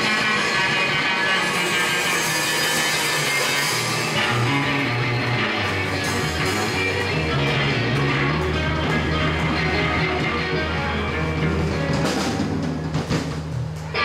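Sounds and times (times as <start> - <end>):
drum kit: 0.0 - 14.0
electric bass line: 0.0 - 14.0
electric guitar: 0.0 - 14.0.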